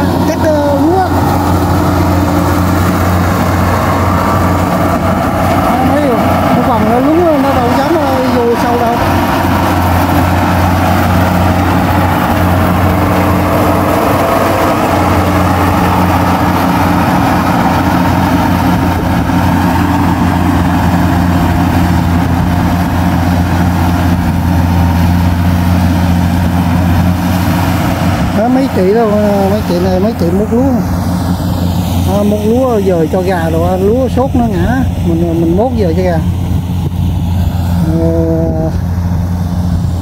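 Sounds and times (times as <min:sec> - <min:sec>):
harvester engine drone: 0:00.0 - 0:40.0.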